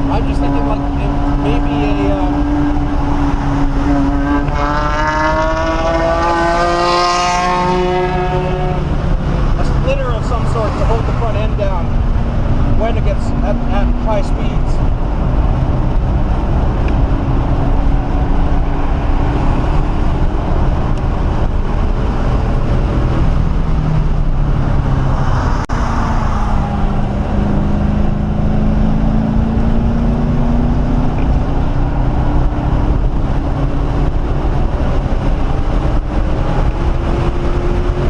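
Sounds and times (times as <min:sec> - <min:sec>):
car engine accelerating: 0:00.0 - 0:38.0
tyre and road noise: 0:00.0 - 0:38.0.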